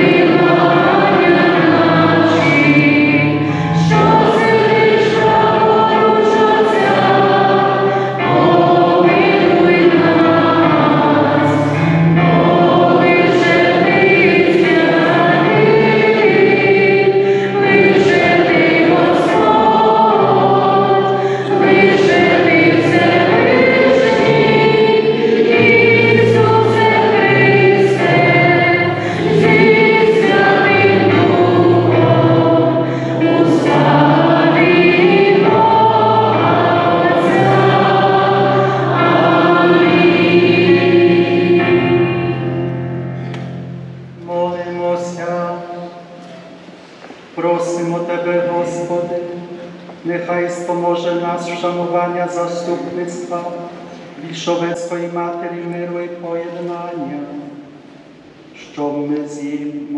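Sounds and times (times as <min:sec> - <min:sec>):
choir singing a hymn: 0:00.0 - 0:59.9
low accompaniment: 0:00.0 - 0:59.9.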